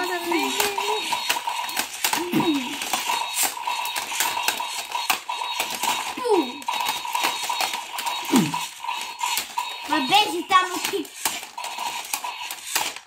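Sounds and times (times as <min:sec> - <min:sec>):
small motors whirring: 0:00.0 - 0:13.0.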